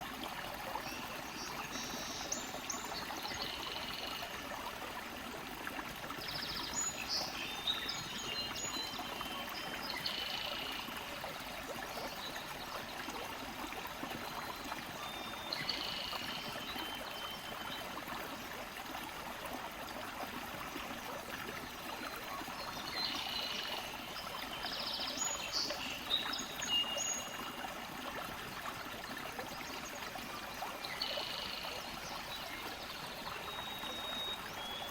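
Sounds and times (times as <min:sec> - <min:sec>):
stream trickling and gurgling: 0:00.0 - 0:34.9.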